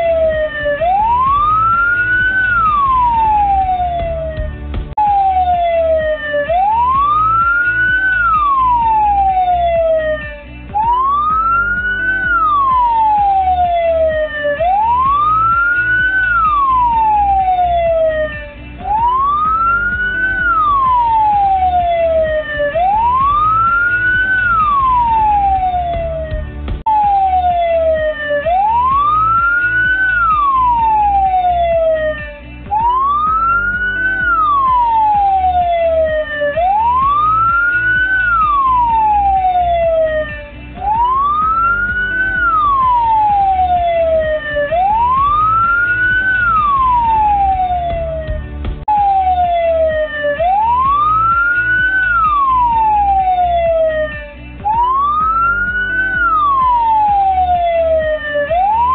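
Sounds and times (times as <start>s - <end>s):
electronic siren wailing: 0.0s - 58.9s.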